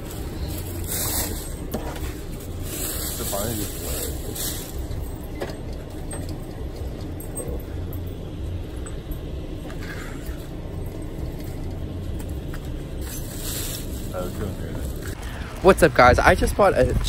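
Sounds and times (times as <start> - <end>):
faint rustles and clicks: 0.0 - 15.2
low outdoor rumble: 0.0 - 17.0.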